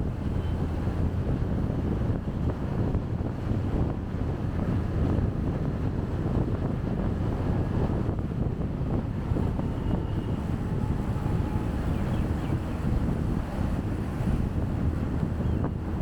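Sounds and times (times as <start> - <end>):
motorcycle engine and road rumble: 0.0 - 16.0
wind buffeting microphone: 0.0 - 16.0.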